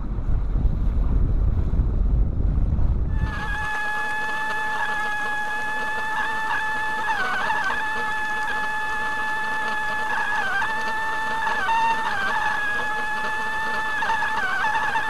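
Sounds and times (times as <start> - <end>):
boat engine whine underwater: 0.0 - 15.0.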